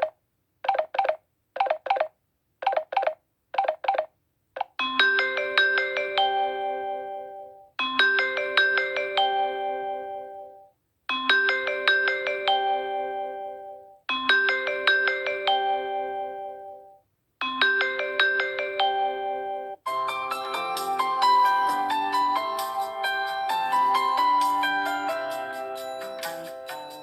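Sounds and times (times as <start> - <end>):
ringtone melody from phone speaker: 4.9 - 27.0.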